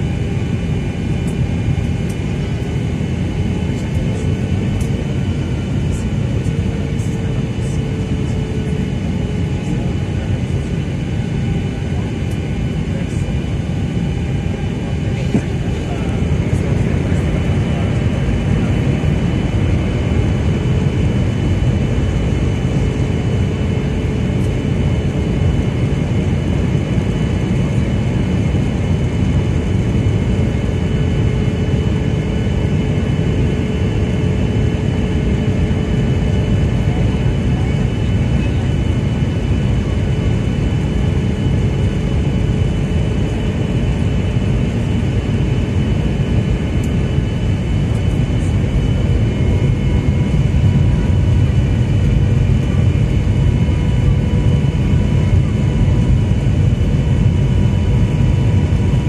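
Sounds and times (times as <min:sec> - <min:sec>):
airliner cabin roar: 0:00.0 - 0:59.0
thin steady engine whine: 0:00.0 - 0:59.0.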